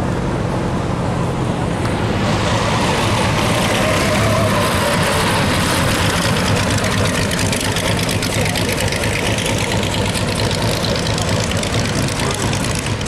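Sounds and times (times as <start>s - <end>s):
car engine rumbling at low revs: 0.0s - 13.0s.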